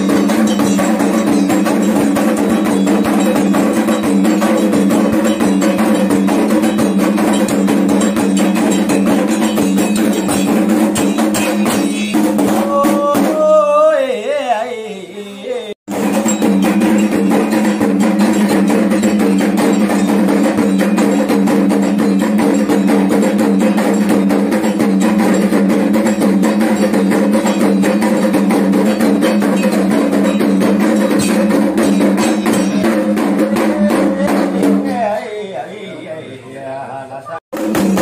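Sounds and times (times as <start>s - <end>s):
fast hand drumming: 0.0s - 13.8s, 15.9s - 35.1s, 37.5s - 38.0s.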